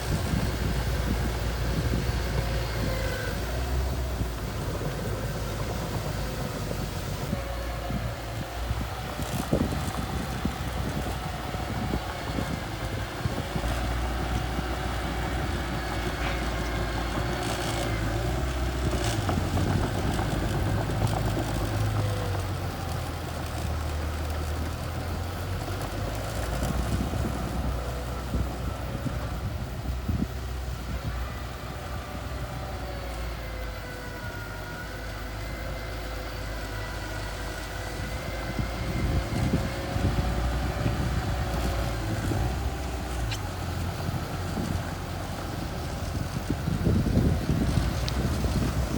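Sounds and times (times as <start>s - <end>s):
small bulldozer engine running: 0.0s - 48.9s.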